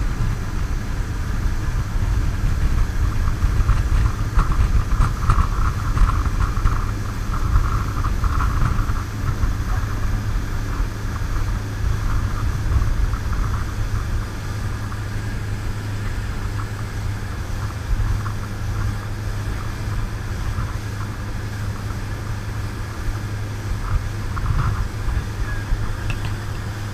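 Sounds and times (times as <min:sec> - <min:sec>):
boat engine drone: 0:00.0 - 0:26.9
churning wake: 0:00.0 - 0:26.9
wind buffeting microphone: 0:00.0 - 0:26.9.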